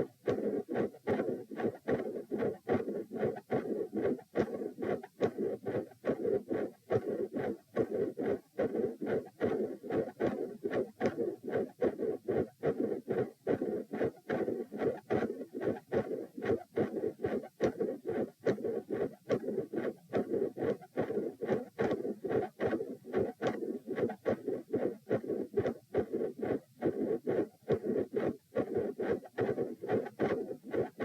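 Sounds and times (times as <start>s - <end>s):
heart beating: 0.0s - 31.0s
heart murmur: 0.0s - 31.0s.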